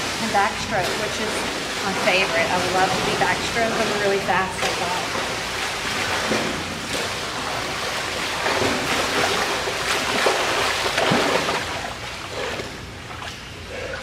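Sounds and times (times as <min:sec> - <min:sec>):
pool water splashing from swimming: 0:00.0 - 0:14.0.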